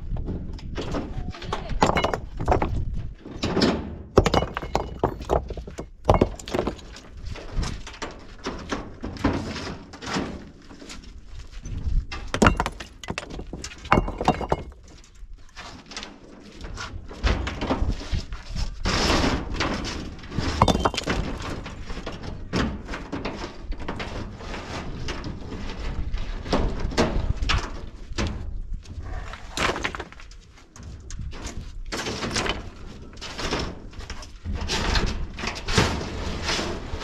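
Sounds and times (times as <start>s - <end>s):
stones clunking on stone and metal: 0.1s - 18.4s, 19.1s - 24.3s, 29.4s - 36.1s.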